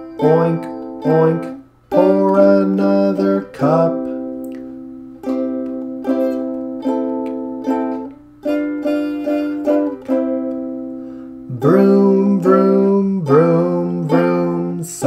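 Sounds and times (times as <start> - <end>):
acoustic guitar strummed chords: 0.0 - 15.0.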